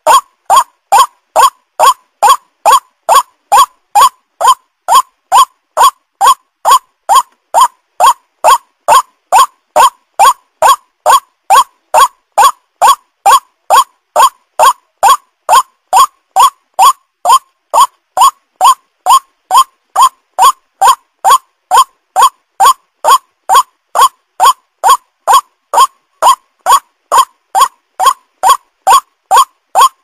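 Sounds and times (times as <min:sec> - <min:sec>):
waterhen calling: 0:00.0 - 0:30.0.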